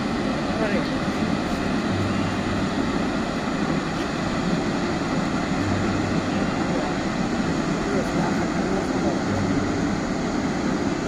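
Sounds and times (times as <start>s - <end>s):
water jet rushing into river: 0.0s - 11.0s.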